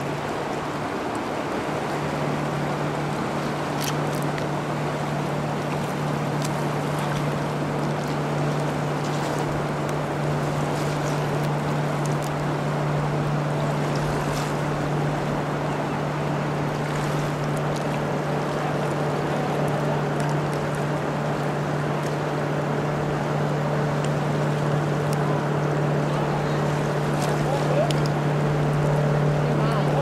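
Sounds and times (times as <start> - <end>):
river current rushing: 0.0 - 30.0
low hum: 1.8 - 30.0.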